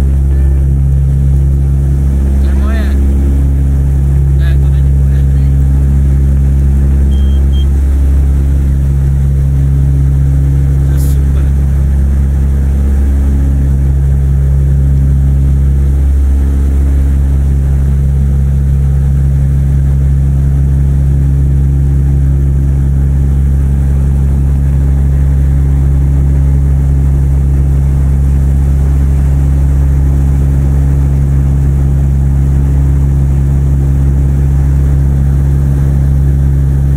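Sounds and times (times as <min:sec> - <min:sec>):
aircraft engine drone in cabin: 0:00.0 - 0:36.9.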